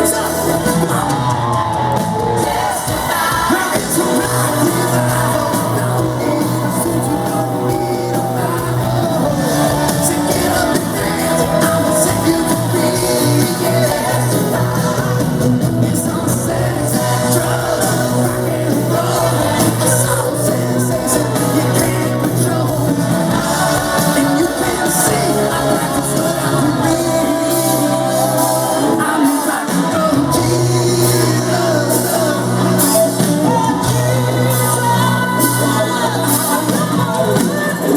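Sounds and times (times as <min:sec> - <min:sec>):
live rock band playing: 0:00.0 - 0:37.9
person singing: 0:00.0 - 0:37.9.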